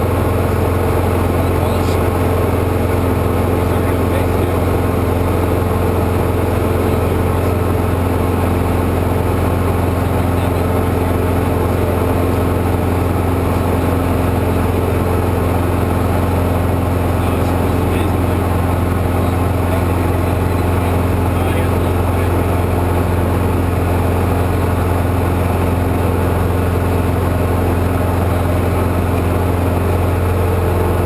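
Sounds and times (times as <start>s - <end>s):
propeller aircraft engine droning: 0.0s - 31.0s
strong low hum: 0.0s - 31.0s.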